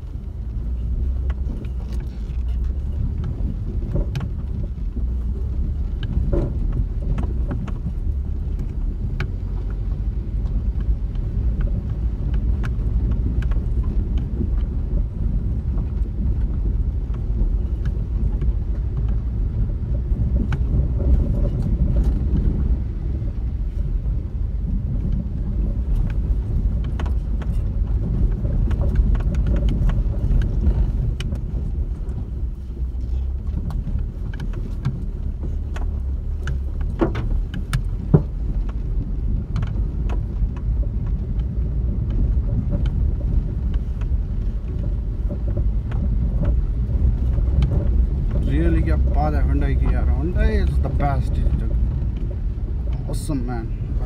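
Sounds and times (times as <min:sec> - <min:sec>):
car engine and tyres rumbling: 0:00.0 - 0:54.0
knocks and rattles over bumps: 0:00.0 - 0:54.0.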